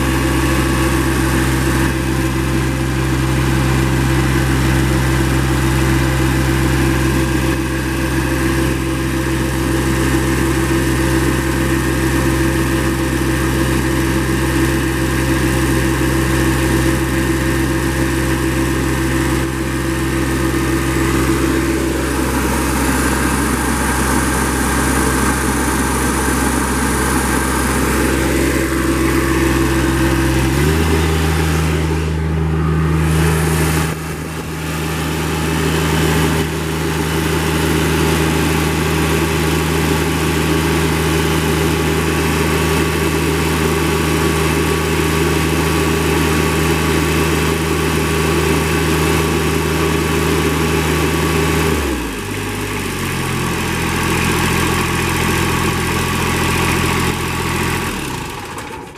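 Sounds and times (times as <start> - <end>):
small diesel engine running: 0.0 - 58.9.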